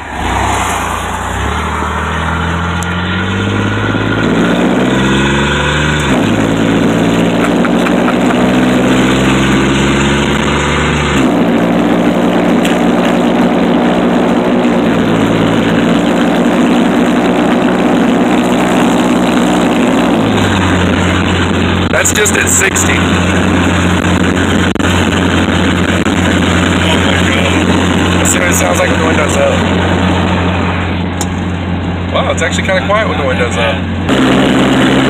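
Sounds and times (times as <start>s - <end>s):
car exhaust drone: 0.0s - 35.0s.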